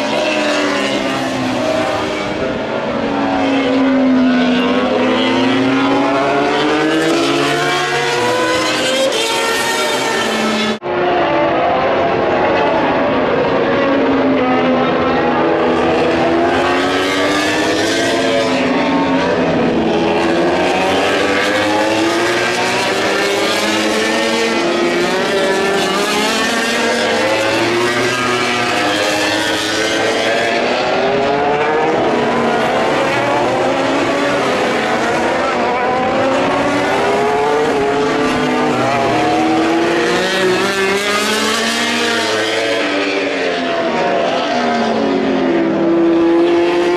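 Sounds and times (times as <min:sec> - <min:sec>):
racing motorcycles revving and passing: 0:00.0 - 0:46.9.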